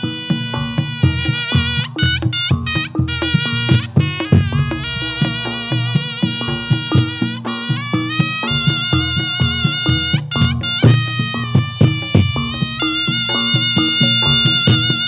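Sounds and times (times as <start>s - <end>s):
reedy lead melody: 0.0s - 15.0s
steady drumming: 0.0s - 15.0s.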